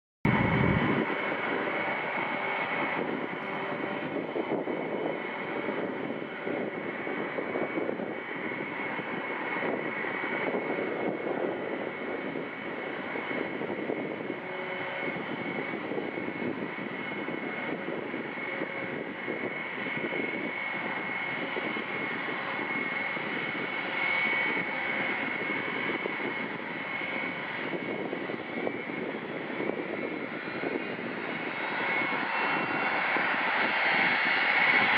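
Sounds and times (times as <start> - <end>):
jet engines whining: 0.3 - 34.9
rushing hiss of jet engines: 0.8 - 34.9.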